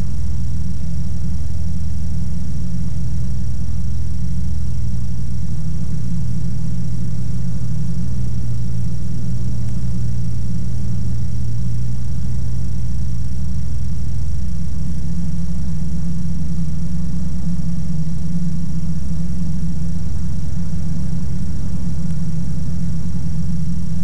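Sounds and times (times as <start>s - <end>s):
aircraft engine droning: 0.0s - 24.0s.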